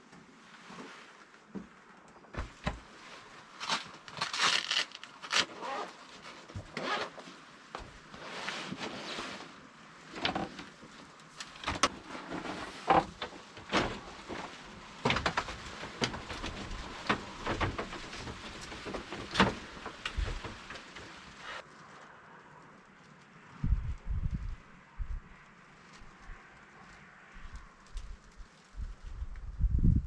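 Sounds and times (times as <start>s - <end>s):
rustling: 0.0s - 29.6s.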